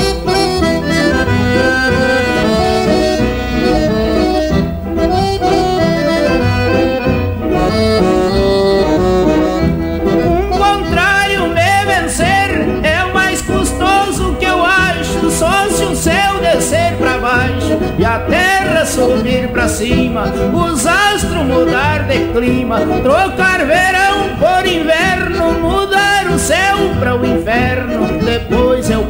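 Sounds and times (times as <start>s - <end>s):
accordion melody: 0.0s - 29.0s
bass accompaniment: 0.0s - 29.0s.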